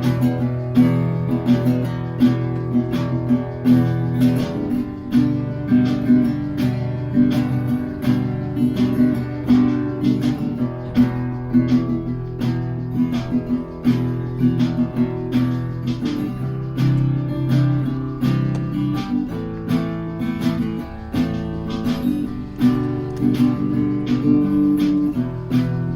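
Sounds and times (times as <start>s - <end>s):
acoustic guitar strumming: 0.0s - 25.9s.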